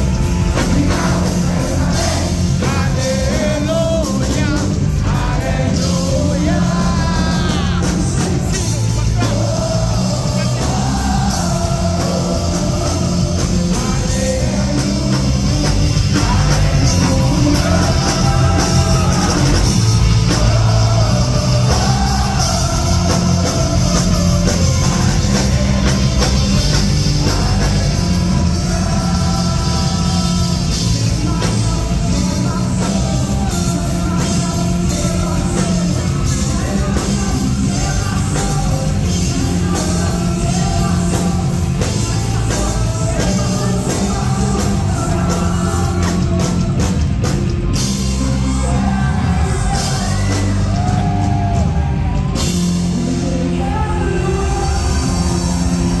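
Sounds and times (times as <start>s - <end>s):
person singing: 0.0s - 56.0s
rock band playing live: 0.0s - 56.0s.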